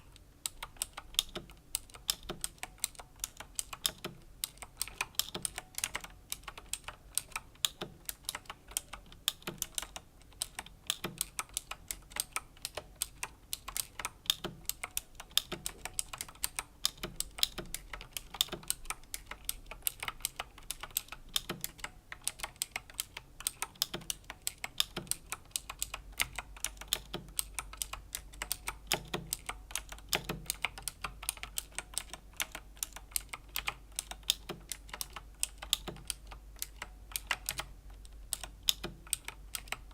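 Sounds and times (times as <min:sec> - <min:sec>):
mechanical keyboard key clicks: 0:00.5 - 0:39.9.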